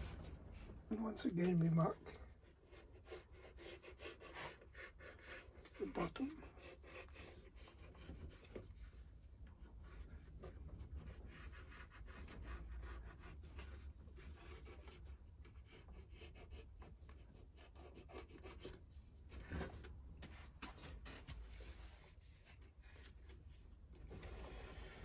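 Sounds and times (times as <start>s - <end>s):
pencil scratching on paper: 0.0s - 23.4s.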